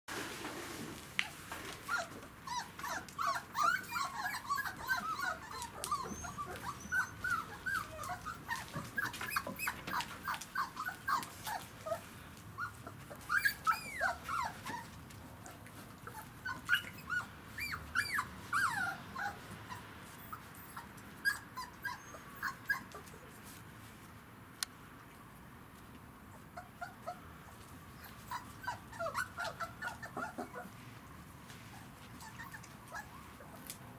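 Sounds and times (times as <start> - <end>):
puppies whimpering and squeaking: 1.8 - 23.6, 26.3 - 30.9, 31.7 - 33.7.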